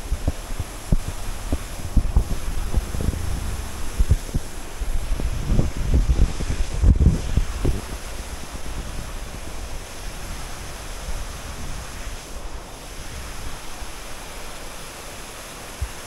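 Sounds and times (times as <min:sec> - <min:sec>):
wind buffeting microphone: 0:00.0 - 0:14.6
waterfall rushing: 0:00.0 - 0:16.0.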